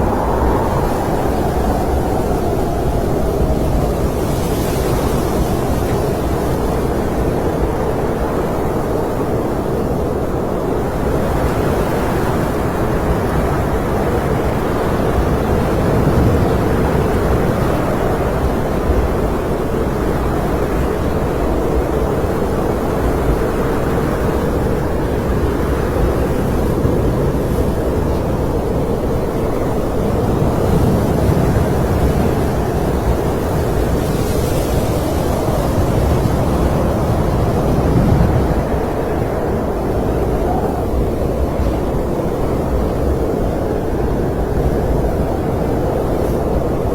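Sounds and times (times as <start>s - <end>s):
wind blowing low rushing: 0.0s - 46.9s.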